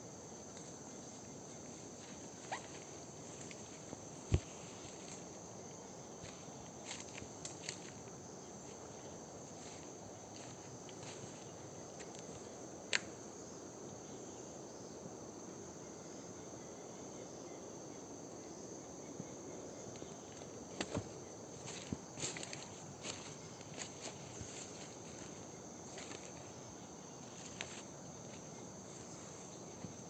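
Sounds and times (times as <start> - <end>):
background hiss: 0.0 - 30.0
insects droning: 0.0 - 30.0.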